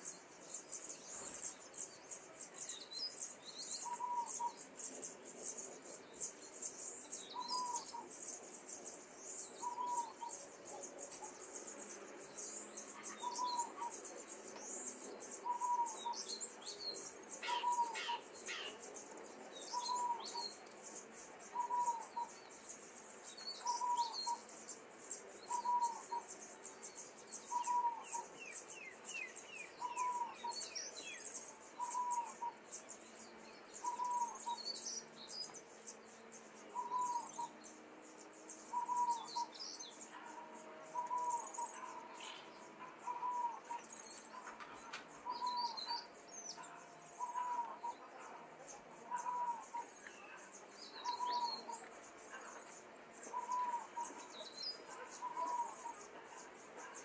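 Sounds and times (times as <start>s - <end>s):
young starlings chattering: 0.0s - 57.0s.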